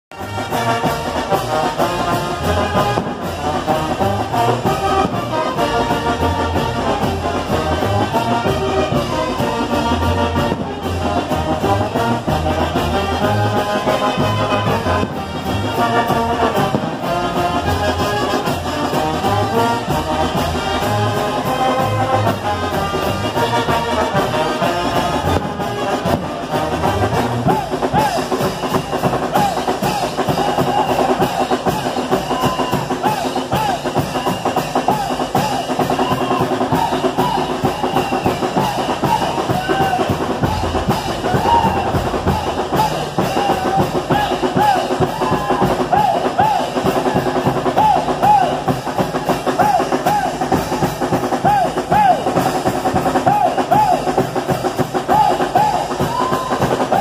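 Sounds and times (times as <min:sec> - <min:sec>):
brass band playing live: 0:00.1 - 0:57.0
drums with steady beat: 0:00.1 - 0:57.0.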